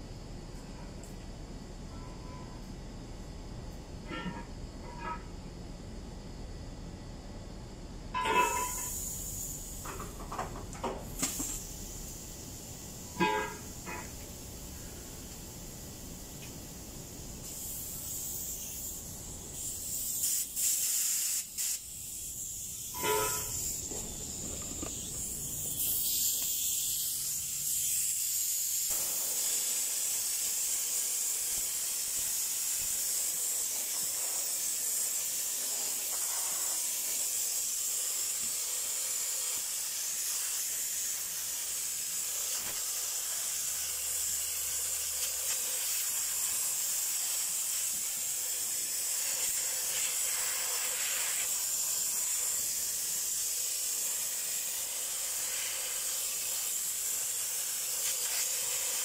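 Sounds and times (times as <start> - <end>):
compressed-air spray gun hissing: 8.2 - 59.0.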